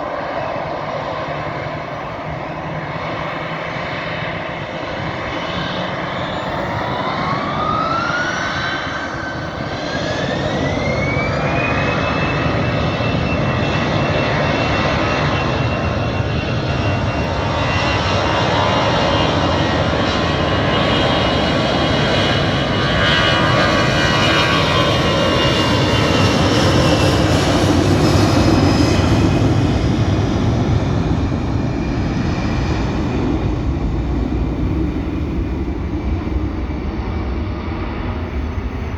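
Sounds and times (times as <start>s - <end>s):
jet engine whine: 0.0s - 38.9s
loud jet engine roar: 0.0s - 38.9s.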